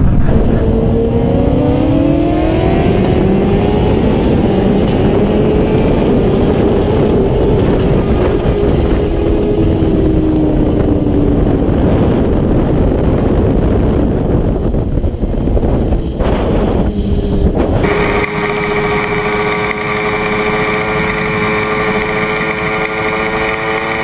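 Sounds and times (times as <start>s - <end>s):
motorcycle engine accelerating: 0.0s - 24.0s
wind rush on microphone: 0.0s - 24.0s.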